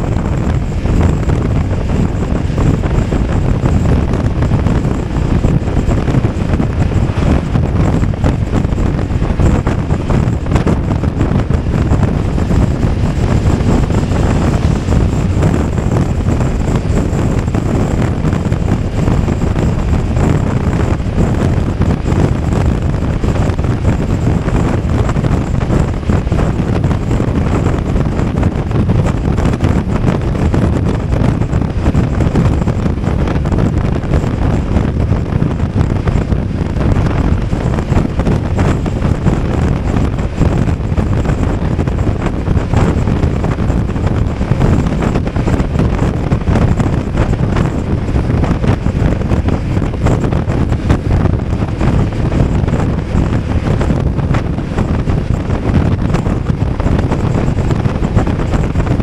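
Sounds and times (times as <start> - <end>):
motorcycle engine and tyres droning: 0.0 - 59.0
wind noise on microphone: 0.0 - 59.0.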